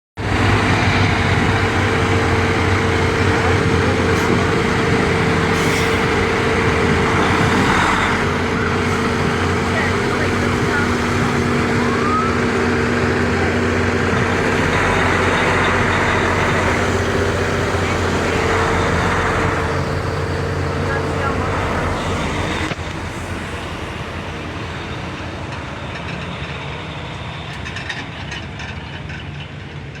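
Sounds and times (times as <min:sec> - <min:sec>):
truck engine running: 0:00.2 - 0:30.0.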